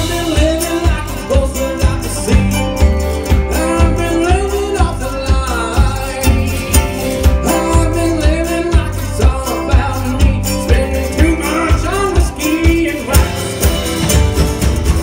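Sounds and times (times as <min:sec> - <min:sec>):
band playing with lead vocal: 0:00.0 - 0:15.0.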